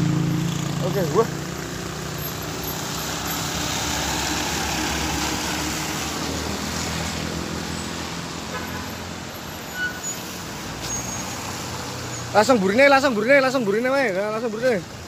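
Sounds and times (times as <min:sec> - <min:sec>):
truck engine hum: 0:00.0 - 0:15.0
tyres hissing on wet road: 0:00.0 - 0:15.0.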